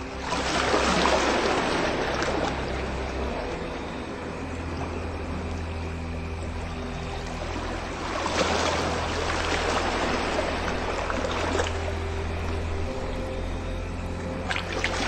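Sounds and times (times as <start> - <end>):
low ambient music: 0.0 - 15.0.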